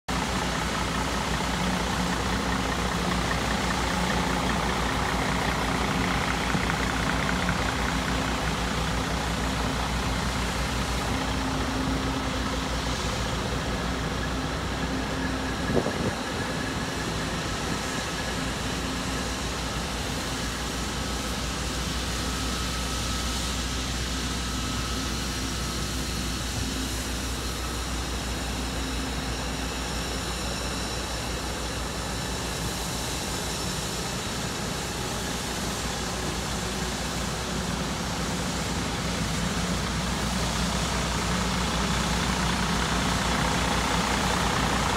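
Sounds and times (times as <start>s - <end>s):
diesel truck engine idling: 0.1s - 44.9s.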